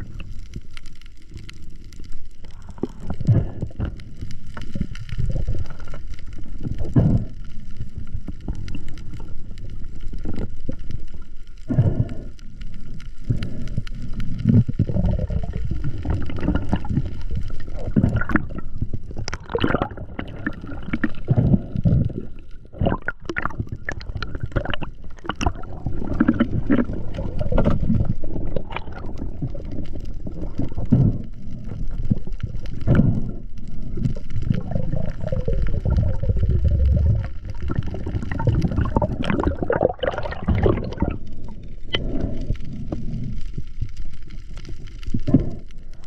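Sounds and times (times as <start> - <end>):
underwater rush and gurgling: 0.0 - 46.0.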